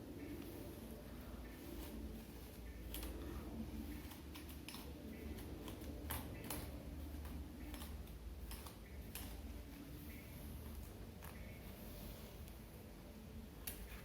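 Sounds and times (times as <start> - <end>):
steady low hum: 0.0 - 14.0
comb rasping through wet hair: 0.2 - 12.5.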